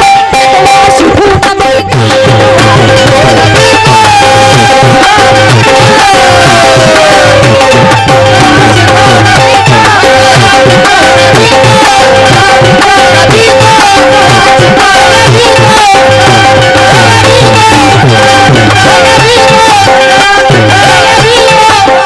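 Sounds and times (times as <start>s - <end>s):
harmonium melody: 0.0s - 22.0s
tabla beat: 0.0s - 22.0s.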